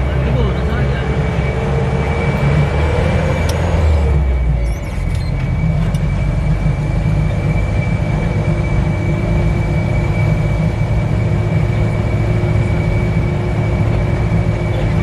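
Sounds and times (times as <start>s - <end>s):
bus engine rumbling: 0.0s - 15.0s
steady high whine: 0.0s - 15.0s.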